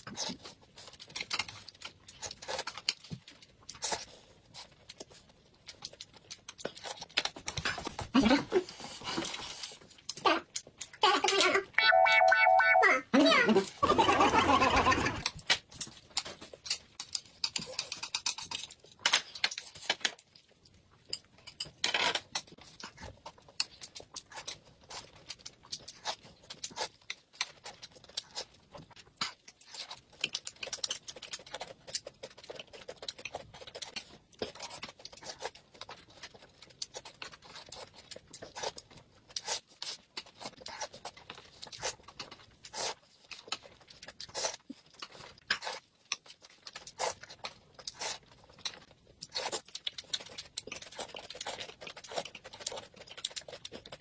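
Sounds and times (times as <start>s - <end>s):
chewing and mouth smacks: 0.0s - 11.5s, 15.0s - 54.0s.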